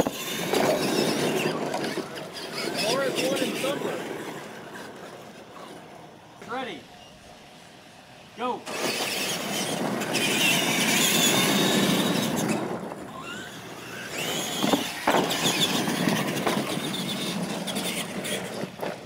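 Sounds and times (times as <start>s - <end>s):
tyres on gravel: 0.0s - 7.7s, 8.6s - 19.0s
electric motors whining: 0.0s - 19.0s.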